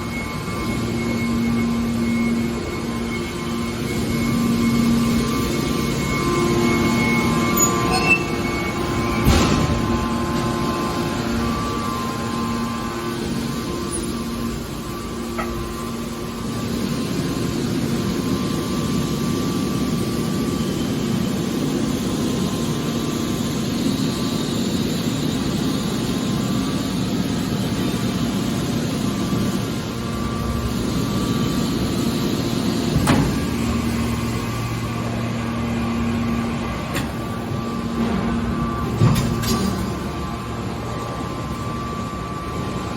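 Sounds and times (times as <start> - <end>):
baler machine hum: 0.0 - 42.9.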